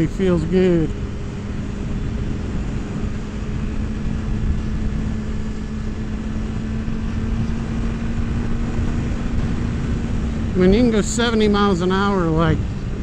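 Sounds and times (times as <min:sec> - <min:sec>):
motorcycle engine cruising: 0:00.0 - 0:13.0
wind rumble on microphone: 0:00.0 - 0:13.0.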